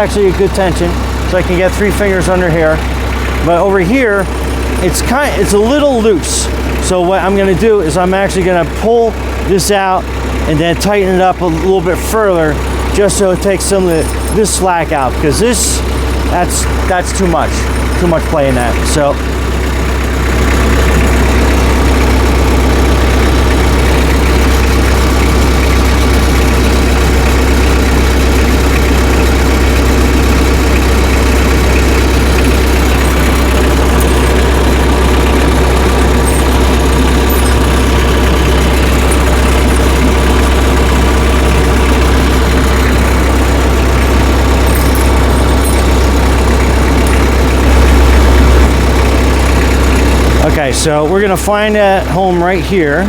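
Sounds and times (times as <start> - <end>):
tractor engine idling: 0.0 - 53.0.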